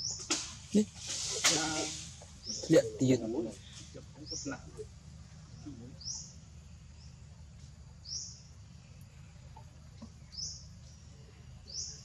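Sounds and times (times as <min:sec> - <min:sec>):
small bird chirping: 0:00.0 - 0:00.3, 0:01.8 - 0:07.2, 0:08.0 - 0:12.0
low background hum: 0:00.0 - 0:12.0.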